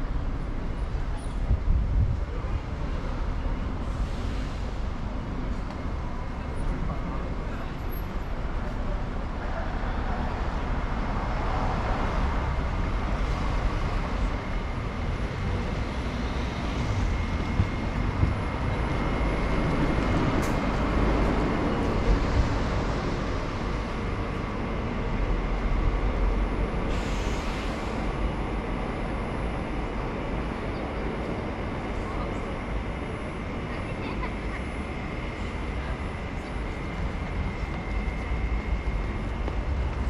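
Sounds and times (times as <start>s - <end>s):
vehicles passing with low rumble: 0.0s - 27.0s, 27.6s - 40.0s.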